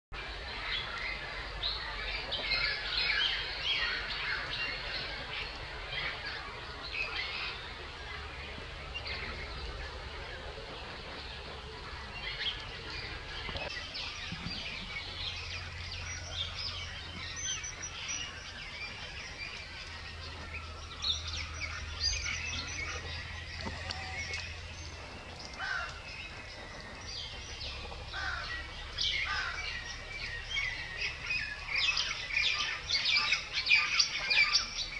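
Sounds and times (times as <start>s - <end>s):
low steady rumble: 0.2s - 34.9s
small birds chirping: 0.2s - 34.9s.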